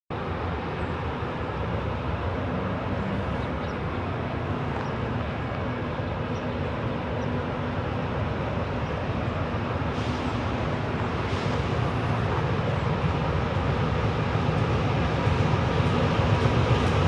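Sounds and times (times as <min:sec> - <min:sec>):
locomotive engine rumble: 0:00.1 - 0:17.0.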